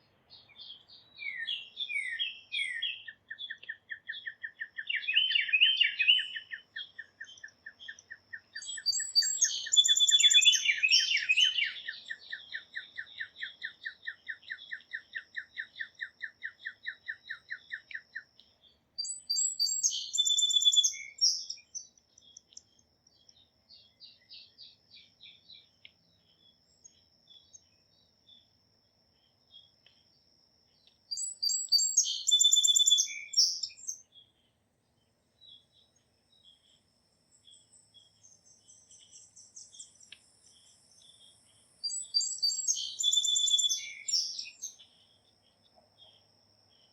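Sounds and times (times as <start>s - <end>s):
bird singing high songs: 0.0s - 46.9s.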